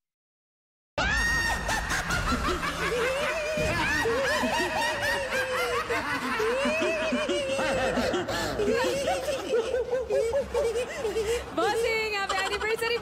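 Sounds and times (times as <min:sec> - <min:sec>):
audience laughing: 0:01.2 - 0:13.0.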